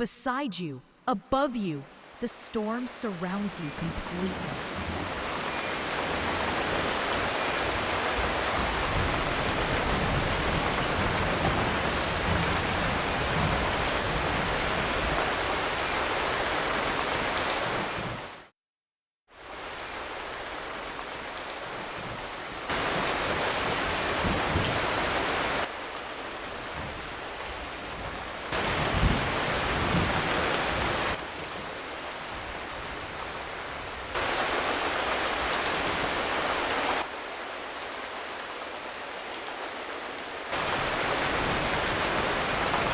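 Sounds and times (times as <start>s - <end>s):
heavy rain: 1.9s - 18.4s, 19.4s - 42.9s.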